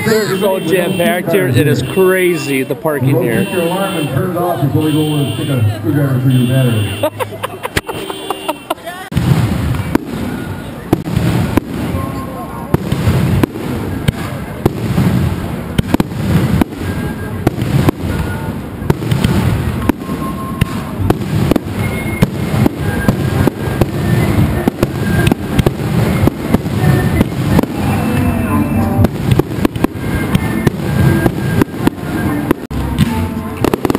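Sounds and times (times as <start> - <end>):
fireworks bursting with loud bangs: 0.0 - 33.9.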